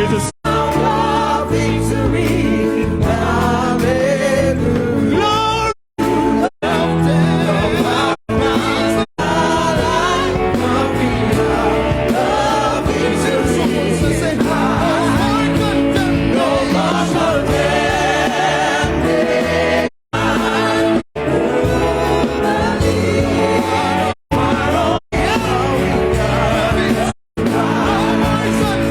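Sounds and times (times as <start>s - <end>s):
band accompaniment: 0.0s - 28.9s
choir singing gospel song: 0.0s - 28.9s.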